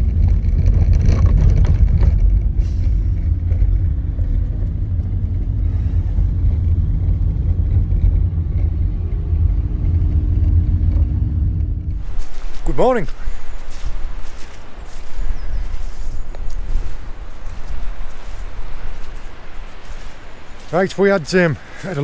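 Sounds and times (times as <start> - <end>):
engine and tyres rumbling: 0.0 - 22.0
faint engine drone: 0.0 - 22.0.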